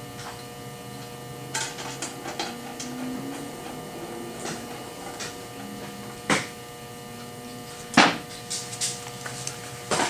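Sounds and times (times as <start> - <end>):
electrical hum: 0.0 - 9.9.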